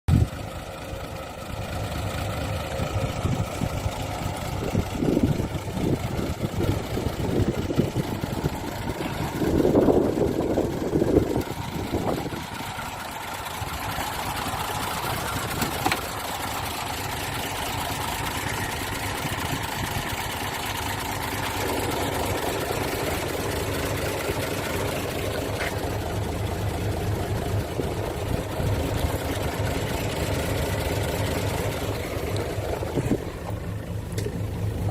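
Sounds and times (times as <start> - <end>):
truck diesel engine running: 0.1 - 34.9.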